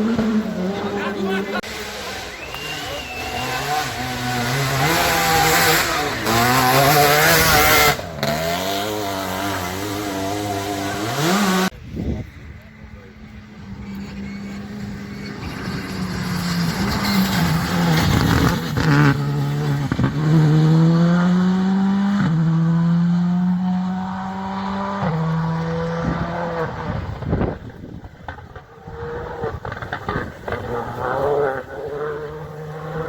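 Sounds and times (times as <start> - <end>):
rally car engine passing by: 0.0 - 11.7, 13.3 - 33.0.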